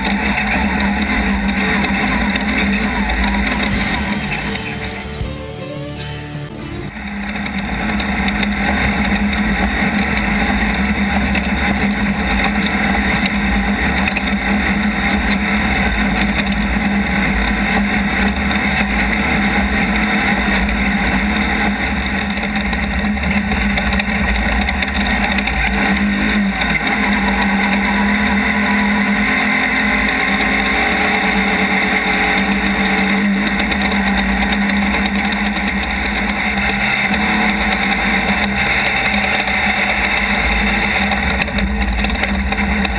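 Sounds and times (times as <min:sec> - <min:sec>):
race car engine revving: 0:07.3 - 0:42.9.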